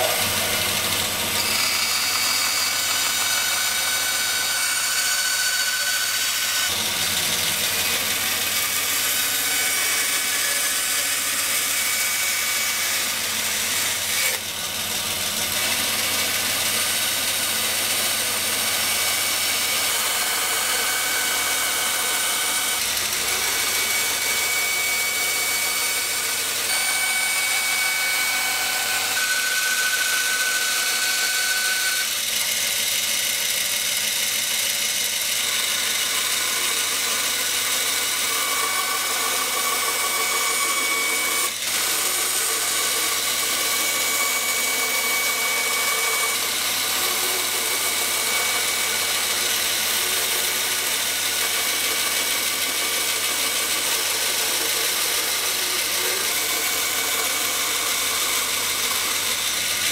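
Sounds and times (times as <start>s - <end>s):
band saw cutting plastic: 0.0s - 59.9s.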